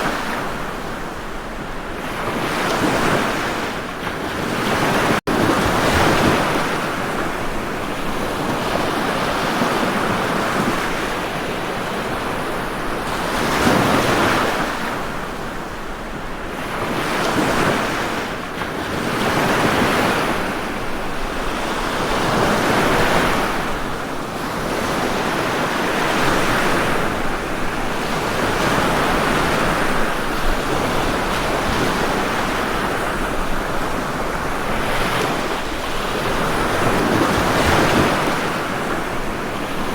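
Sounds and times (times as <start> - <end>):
ocean surf breaking on shore: 0.0 - 39.9.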